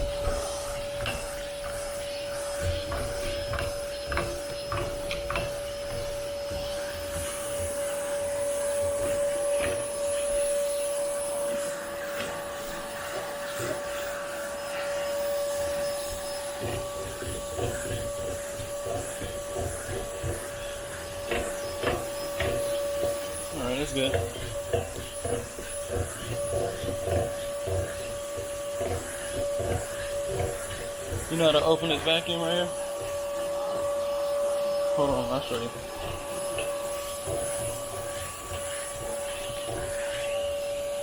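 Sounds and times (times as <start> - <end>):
vacuum cleaner whining: 0.0 - 41.0.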